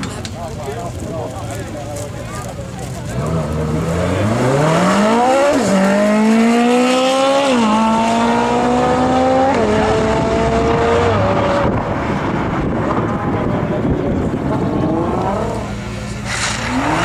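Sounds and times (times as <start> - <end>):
car engine accelerating hard: 3.0 - 17.0.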